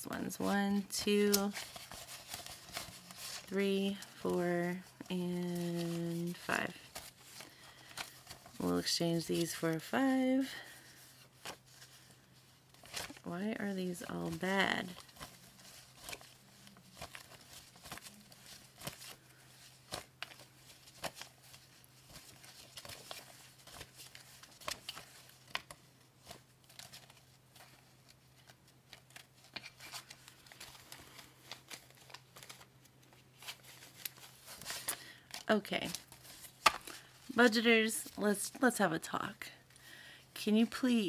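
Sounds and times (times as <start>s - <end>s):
paper bills rustling and flicking: 1.0s - 38.7s.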